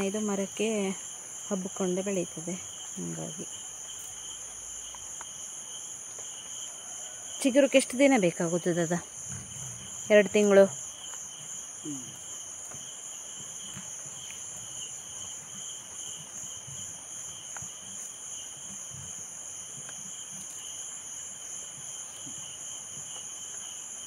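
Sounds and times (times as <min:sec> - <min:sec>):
insects chorus drone: 0:00.0 - 0:24.0.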